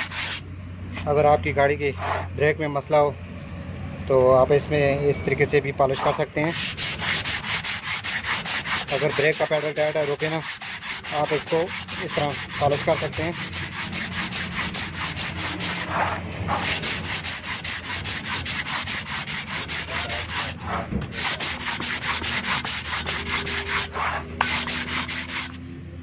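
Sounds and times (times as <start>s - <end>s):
sandpaper scraping brake disc: 0.0s - 1.2s, 1.9s - 2.3s, 5.9s - 25.6s.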